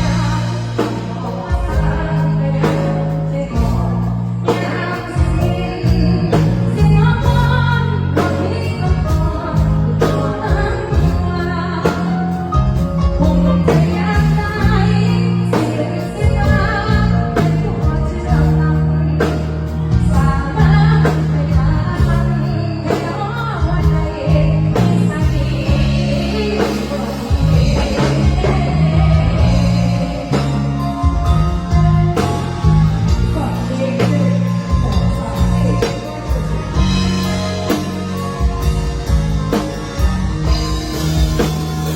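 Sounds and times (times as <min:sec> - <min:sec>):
woman singing: 0:00.0 - 0:41.5
heavy bass line: 0:00.0 - 0:41.9
steady drum beat: 0:00.0 - 0:41.9.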